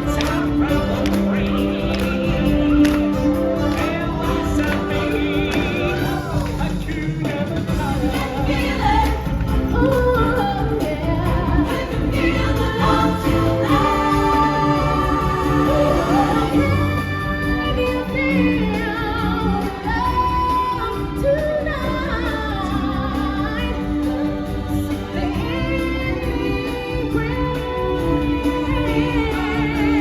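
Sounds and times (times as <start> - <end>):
stage-show music with singers: 0.0 - 30.0.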